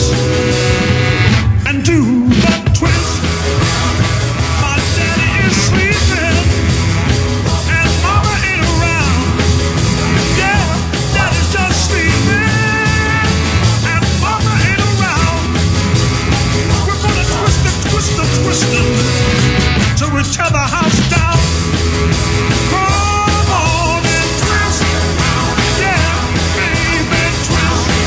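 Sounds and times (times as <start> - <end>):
rock music with singing: 0.0 - 28.0.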